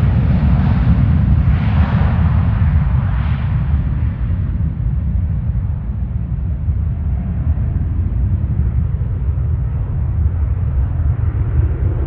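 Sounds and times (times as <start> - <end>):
jet engines deep rumble: 0.0 - 12.0.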